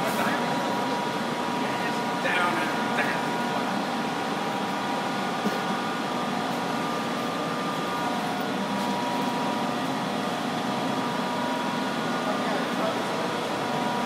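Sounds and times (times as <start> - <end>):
lathe running with whining hum: 0.0 - 14.0.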